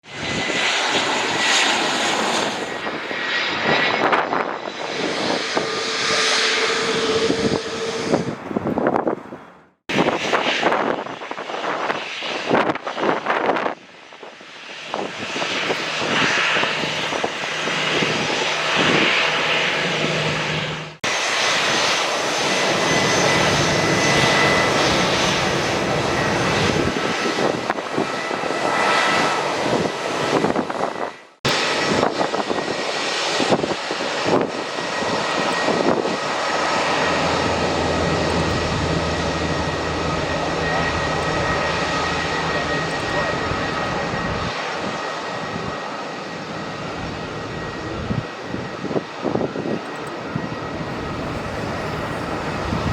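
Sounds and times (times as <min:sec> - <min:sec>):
jet engine rush: 0:00.0 - 0:52.9.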